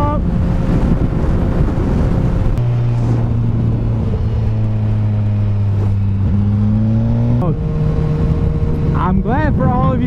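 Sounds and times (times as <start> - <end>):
motorcycle engine cruising: 0.0 - 10.0
wind rush on microphone: 0.0 - 10.0.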